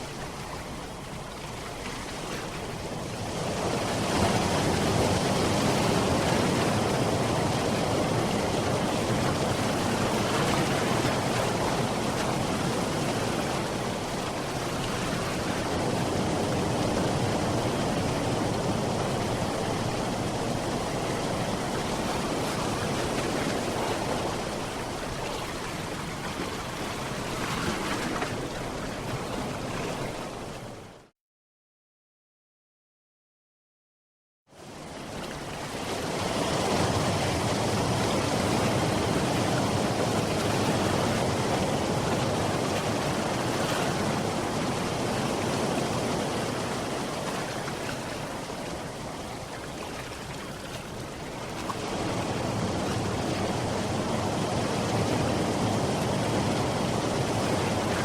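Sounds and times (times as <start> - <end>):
sea surf washing on shore: 0.0 - 31.1, 34.5 - 58.0.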